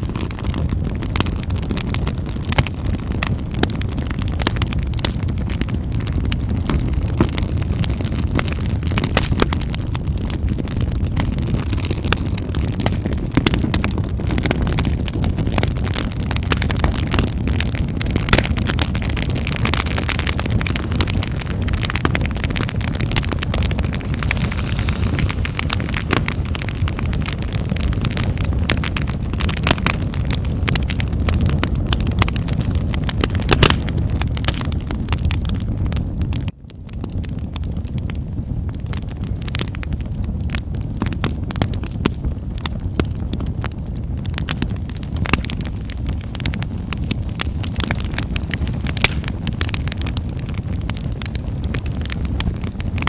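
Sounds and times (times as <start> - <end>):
fire popping and snapping: 0.0 - 53.0
flames rumbling: 0.0 - 53.0.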